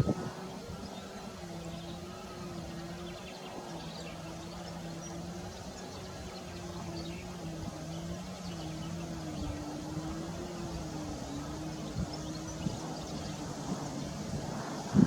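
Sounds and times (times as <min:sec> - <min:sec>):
motor droning: 0:00.0 - 0:15.0.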